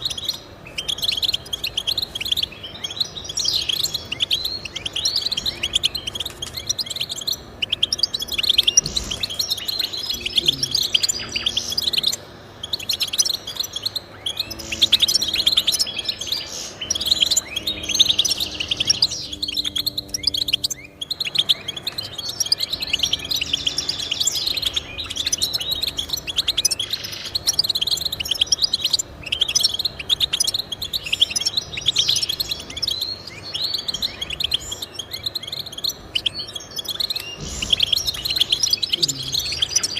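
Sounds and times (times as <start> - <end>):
finch twittering and trilling: 0.0 - 39.9.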